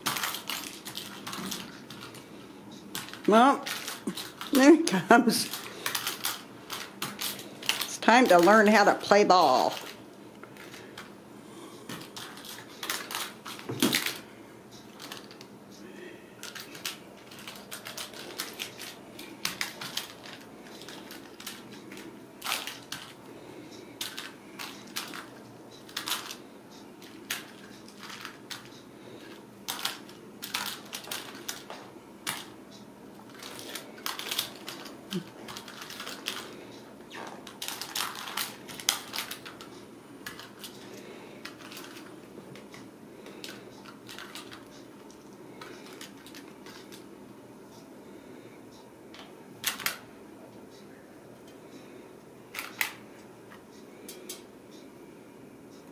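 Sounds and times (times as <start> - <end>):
low room hum: 0.0 - 55.9.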